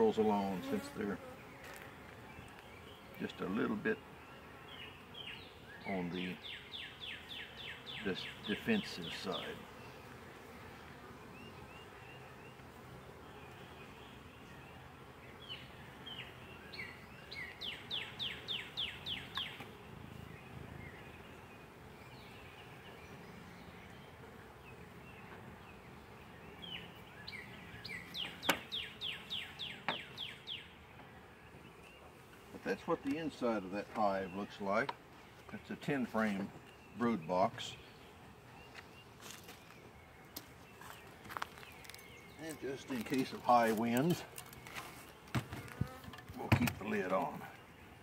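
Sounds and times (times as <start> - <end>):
honeybees buzzing: 0.0 - 48.0
bird chirping: 1.2 - 10.2, 11.2 - 48.0.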